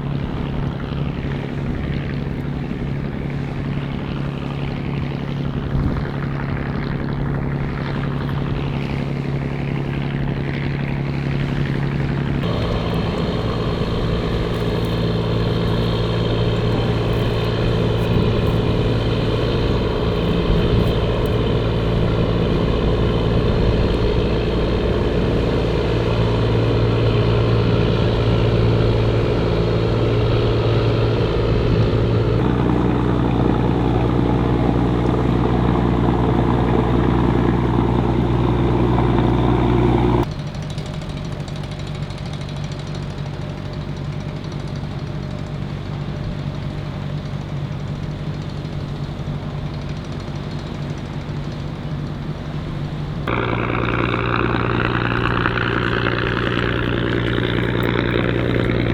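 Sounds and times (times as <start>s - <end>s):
engine running steadily: 0.0s - 58.9s.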